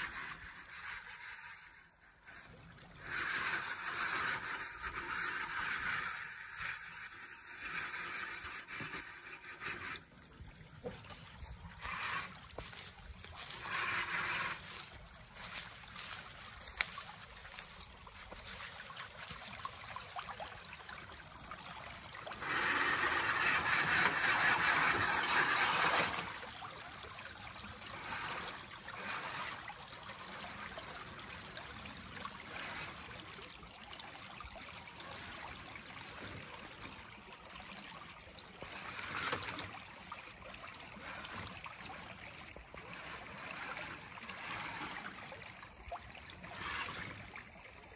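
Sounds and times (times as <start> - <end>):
creek water running and splashing: 0.0 - 47.9
rush of water: 0.0 - 47.9.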